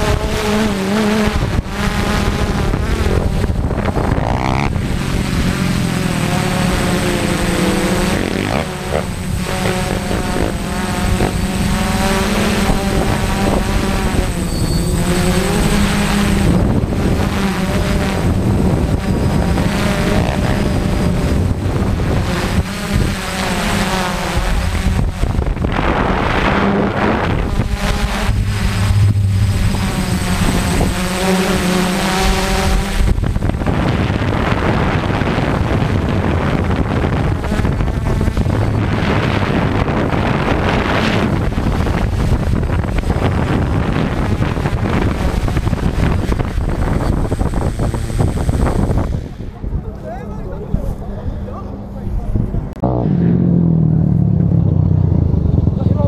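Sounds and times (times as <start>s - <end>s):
drone motors whining: 0.0s - 55.0s
wind buffeting microphone: 0.0s - 56.0s.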